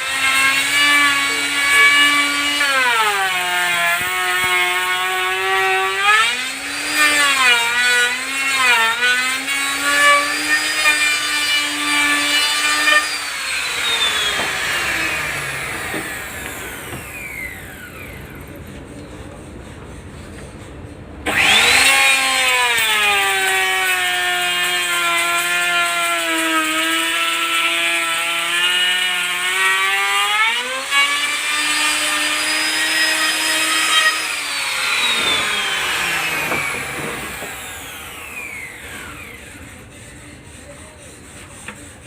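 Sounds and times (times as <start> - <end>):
electric saw cutting wood: 0.0 - 18.3, 21.3 - 39.9.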